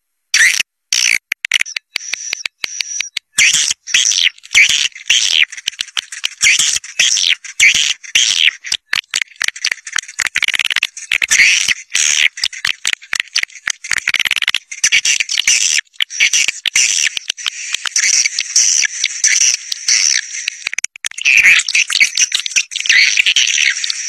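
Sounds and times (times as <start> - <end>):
swiftlets chirping and twittering: 1.6 - 20.6, 21.2 - 24.0.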